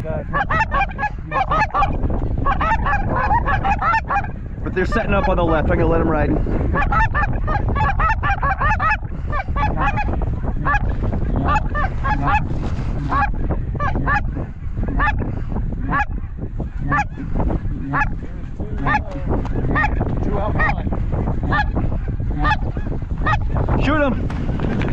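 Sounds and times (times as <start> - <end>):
steady low rumble: 0.0 - 24.9
geese honking: 0.2 - 5.6, 6.7 - 23.7.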